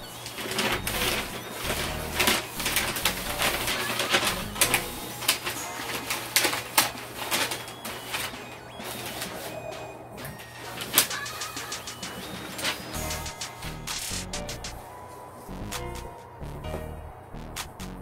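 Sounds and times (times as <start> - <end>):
paper rustling and crinkling: 0.0 - 15.4.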